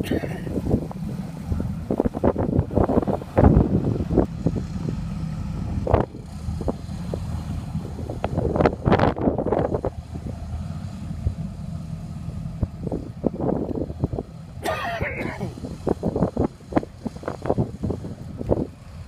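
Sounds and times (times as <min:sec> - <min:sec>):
boat engines rumbling: 0:00.0 - 0:19.0
wind buffeting microphone: 0:00.0 - 0:19.0.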